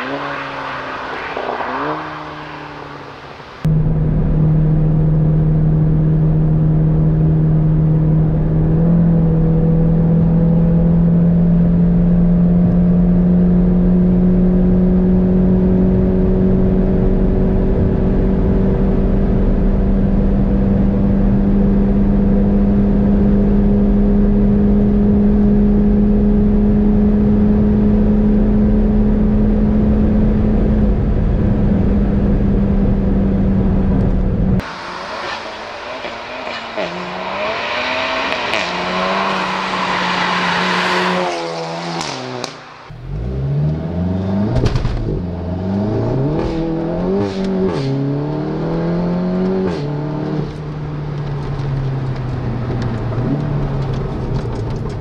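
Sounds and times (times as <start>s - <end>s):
car engine droning under load: 0.0s - 55.0s.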